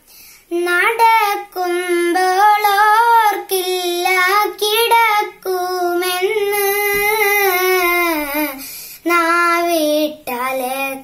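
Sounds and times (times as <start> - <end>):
girl singing unaccompanied: 0.4 - 11.0.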